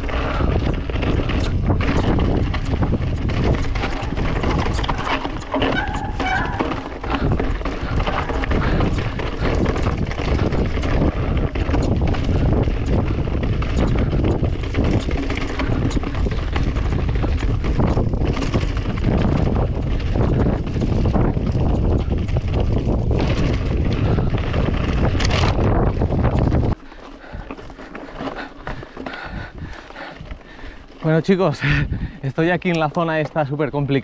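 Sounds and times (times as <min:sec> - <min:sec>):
wind buffeting microphone: 0:00.0 - 0:32.9
bike rattling on rough ground: 0:00.0 - 0:34.0.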